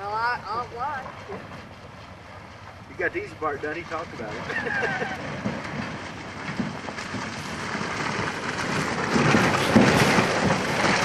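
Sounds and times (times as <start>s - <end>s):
truck engine rumble: 0.0s - 11.0s
tyres crunching on leaves and mud: 0.0s - 11.0s.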